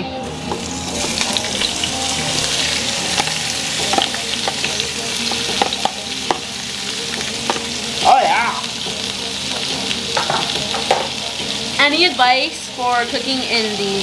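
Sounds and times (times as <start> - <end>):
shrimp sizzling in a frying pan: 0.2 - 14.0.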